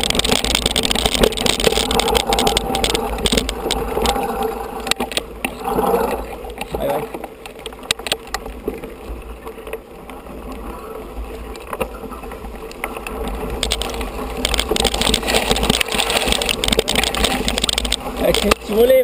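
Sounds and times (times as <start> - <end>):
bike rattling over rough dirt: 0.0 - 19.0.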